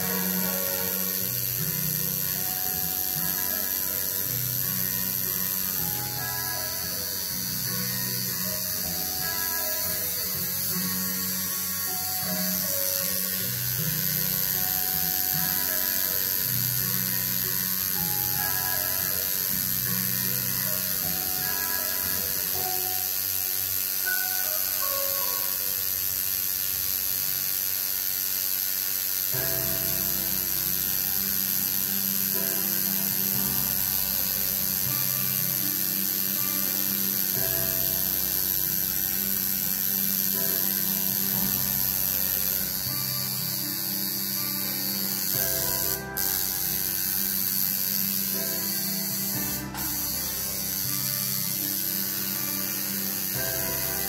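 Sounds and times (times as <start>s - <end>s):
tattoo machine buzzing: 0.0s - 54.0s.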